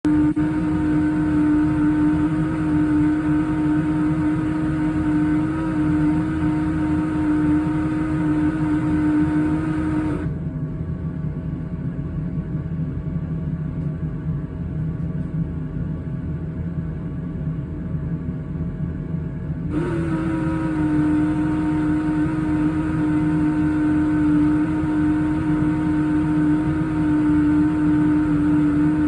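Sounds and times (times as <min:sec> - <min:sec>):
loud tonal pump hum: 0:00.0 - 0:29.0
washing machine low rumble: 0:00.0 - 0:29.0.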